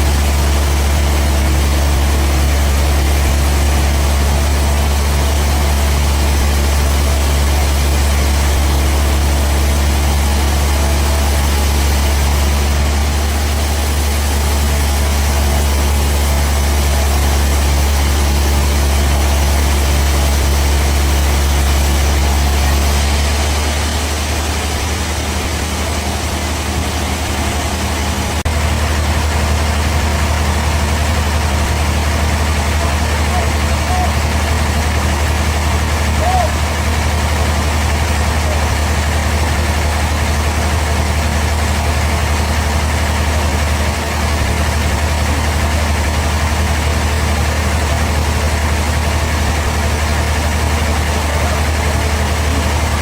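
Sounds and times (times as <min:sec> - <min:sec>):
engine humming steadily: 0:00.0 - 0:53.0.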